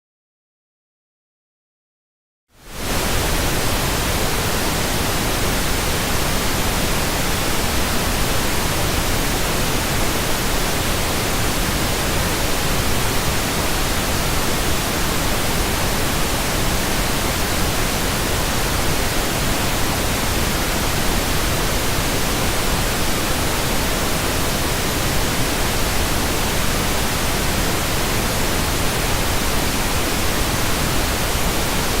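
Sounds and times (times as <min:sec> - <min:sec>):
pink noise hiss: 0:02.6 - 0:32.0.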